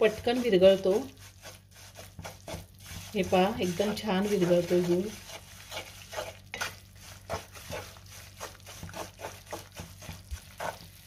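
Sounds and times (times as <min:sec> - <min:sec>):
wooden spatula scraping pan: 0:00.0 - 0:11.0.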